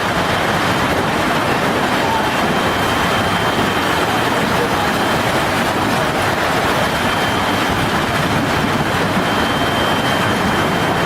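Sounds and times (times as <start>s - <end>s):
driving rain: 0.0s - 11.0s.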